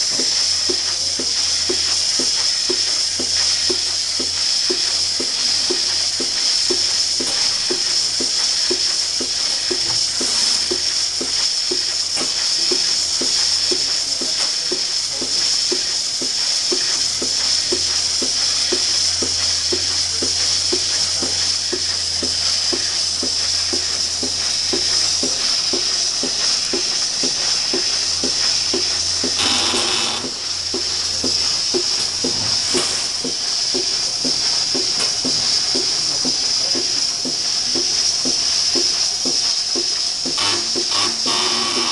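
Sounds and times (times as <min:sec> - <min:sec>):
milking pulsation beating: 0:00.0 - 0:41.9
vacuum air hissing: 0:00.0 - 0:41.9.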